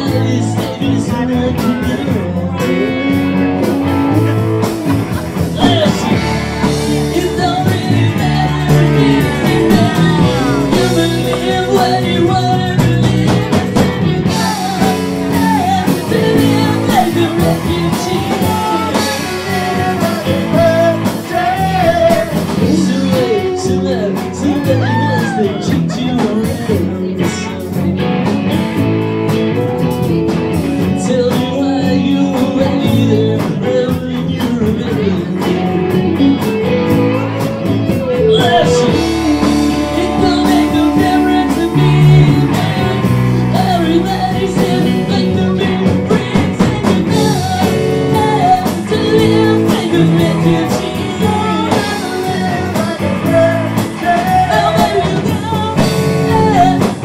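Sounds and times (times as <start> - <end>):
lead vocal singing: 0.0 - 27.9, 30.6 - 57.0
bass guitar: 0.0 - 57.0
drums: 0.0 - 57.0
electric guitar: 0.0 - 57.0.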